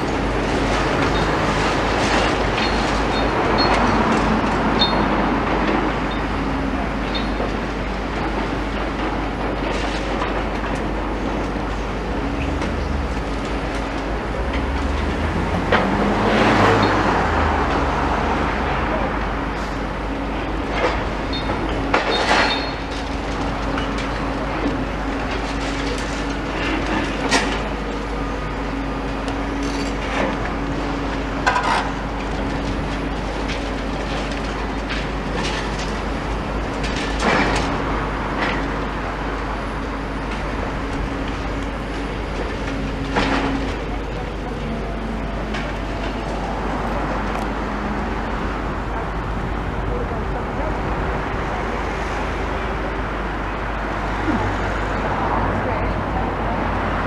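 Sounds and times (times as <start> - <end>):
excavator engine drone: 0.0 - 57.0.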